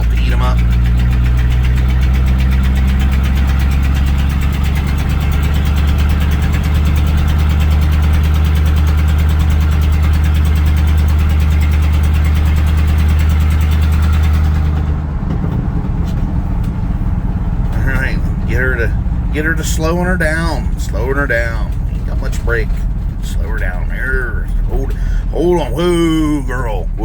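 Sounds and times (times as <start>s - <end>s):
pickup engine droning: 0.0s - 27.0s.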